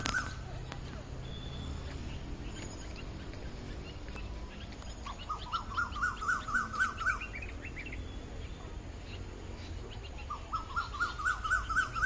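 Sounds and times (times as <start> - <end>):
bird calling in rising notes: 0.0 - 0.6, 1.2 - 12.0.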